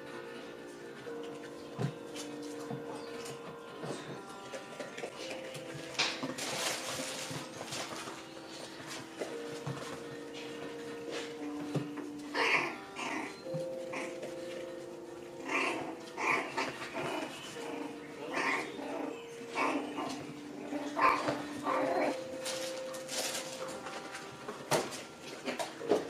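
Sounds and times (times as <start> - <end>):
puppies growling: 0.0 - 26.0
puppies yipping and barking: 1.3 - 26.0.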